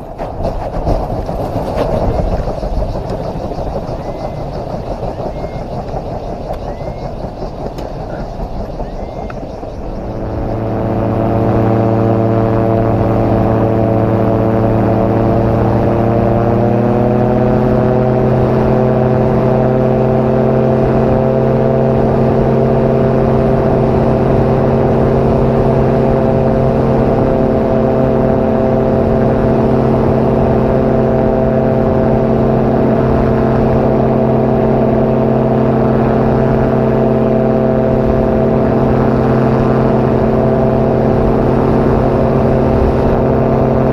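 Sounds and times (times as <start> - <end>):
aircraft engine at high power: 0.0 - 43.9.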